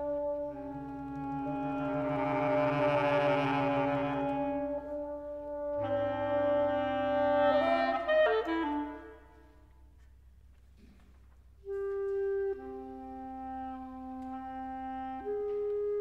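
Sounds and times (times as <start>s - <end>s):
woodwind trio sustained chords: 0.0s - 9.9s, 11.6s - 16.0s.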